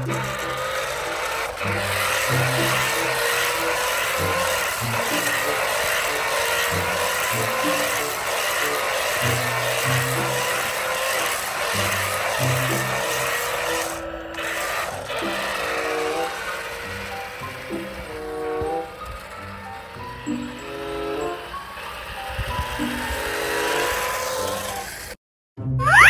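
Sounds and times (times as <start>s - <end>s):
toy motor whirring: 0.0s - 25.2s.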